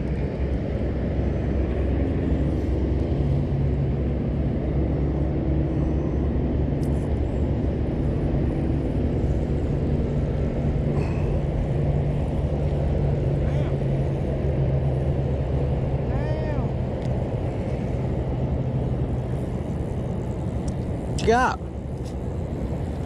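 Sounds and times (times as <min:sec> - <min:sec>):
boat motor humming: 0:00.0 - 0:23.0.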